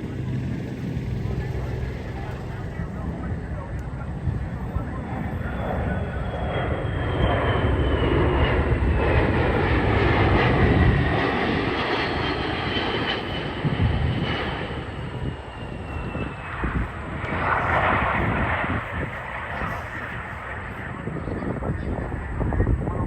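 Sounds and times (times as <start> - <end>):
aircraft flying past: 0.0 - 23.0.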